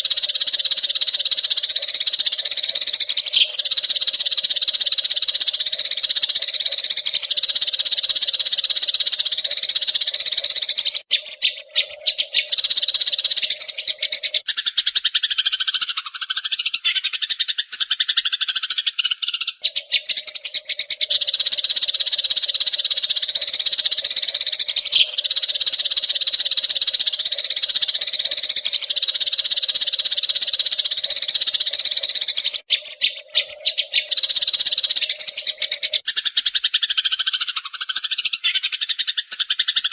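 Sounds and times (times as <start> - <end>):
sparrow chattering song: 0.0 - 39.9.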